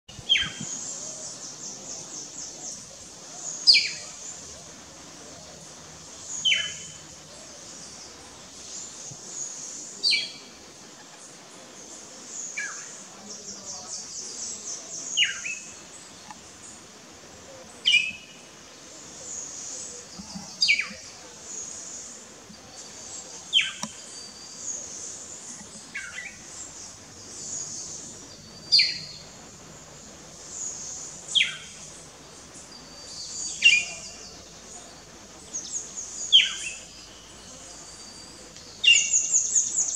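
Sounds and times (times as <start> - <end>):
high insect hiss: 0.1 - 39.9.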